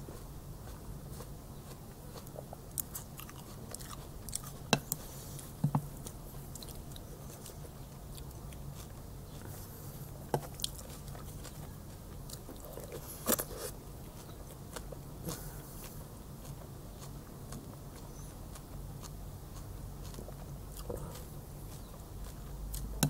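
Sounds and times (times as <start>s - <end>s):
steady low hum: 0.0s - 23.0s
chewing and lip-smacking: 0.7s - 5.1s, 6.0s - 9.6s, 10.4s - 23.0s.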